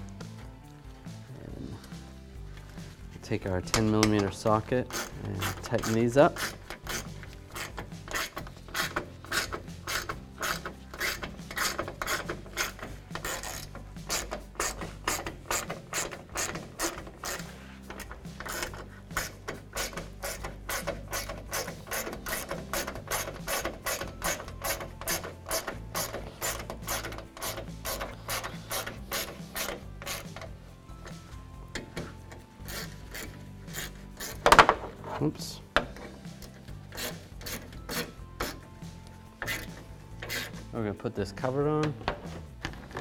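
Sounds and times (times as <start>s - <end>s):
hand ratchet clicking: 3.6s - 35.0s, 35.8s - 40.6s.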